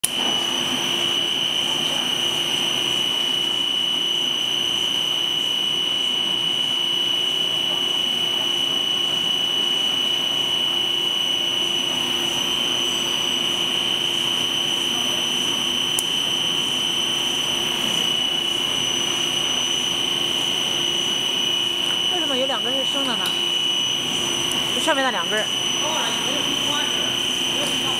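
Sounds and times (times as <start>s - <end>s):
high-pitched machine whine: 0.0s - 27.9s
machine drone: 0.0s - 27.9s.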